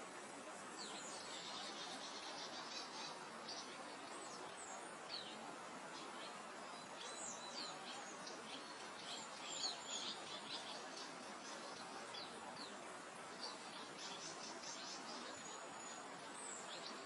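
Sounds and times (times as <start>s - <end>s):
small birds chirping: 0.0s - 17.0s
wind through grass: 0.0s - 17.0s.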